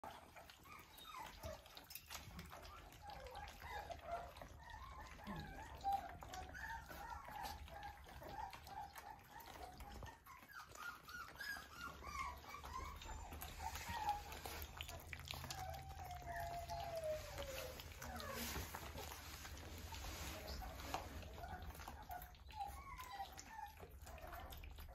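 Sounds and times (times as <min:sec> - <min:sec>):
puppies lapping: 0:00.0 - 0:24.9
puppies whimpering and squeaking: 0:00.0 - 0:24.9.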